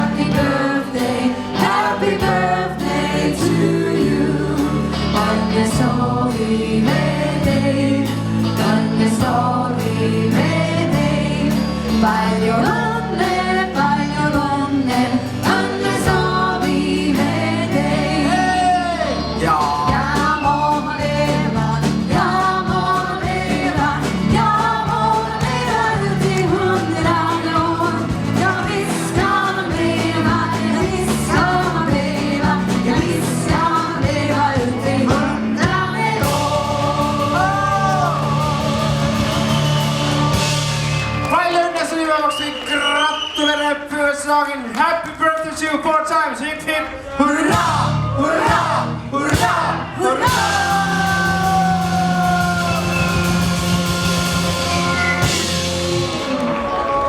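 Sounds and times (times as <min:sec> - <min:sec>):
person singing: 0:00.0 - 0:41.2, 0:47.2 - 0:57.0
bass and drums beat: 0:00.0 - 0:41.4, 0:47.5 - 0:57.0.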